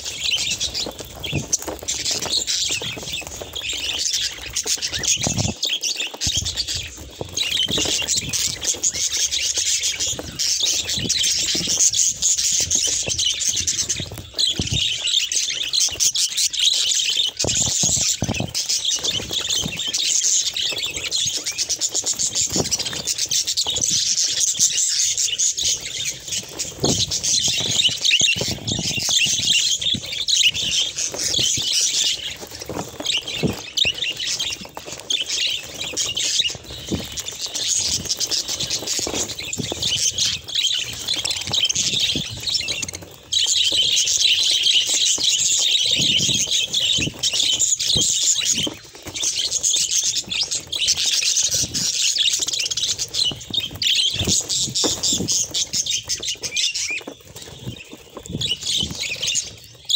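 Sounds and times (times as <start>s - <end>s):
budgerigars chattering and warbling: 0.0s - 59.9s.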